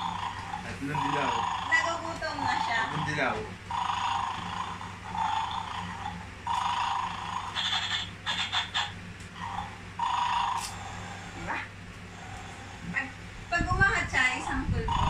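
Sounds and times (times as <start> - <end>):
tinny toy snores: 0.0 - 13.1, 14.5 - 15.0.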